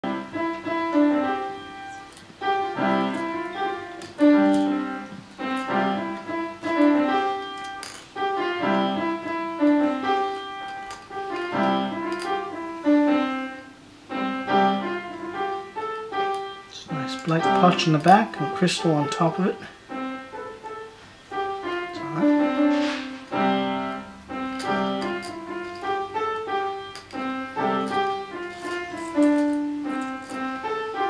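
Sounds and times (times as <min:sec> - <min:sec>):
slow piano piece: 0:00.0 - 0:31.0.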